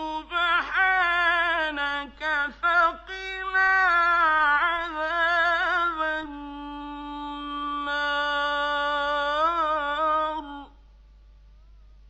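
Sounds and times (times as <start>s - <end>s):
man reciting melodically: 0.0s - 10.8s.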